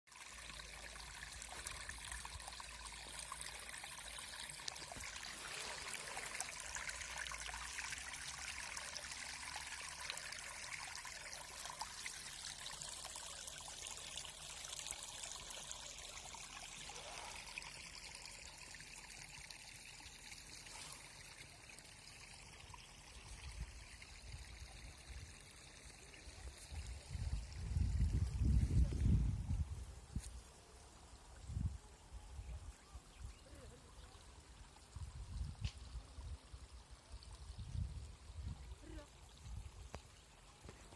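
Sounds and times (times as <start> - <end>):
water trickling in a stream: 0.1 - 40.9.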